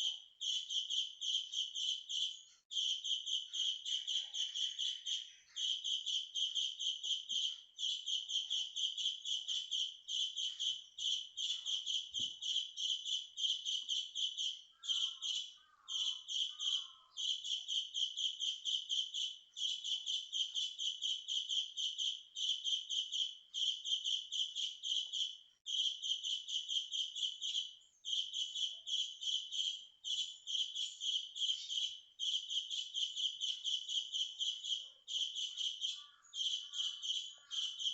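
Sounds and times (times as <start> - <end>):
birds chirping loudly: 0.0 - 37.9.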